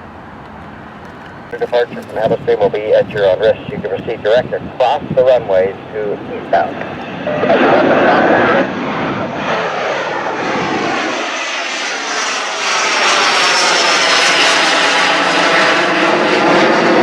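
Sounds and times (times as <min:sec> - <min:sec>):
jet engine roar with falling whine: 0:00.0 - 0:17.0.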